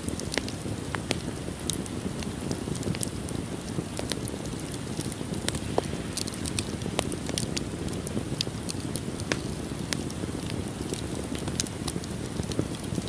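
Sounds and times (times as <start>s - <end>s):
fire crackling and popping: 0.0s - 13.0s
low rushing of flames: 0.0s - 13.0s.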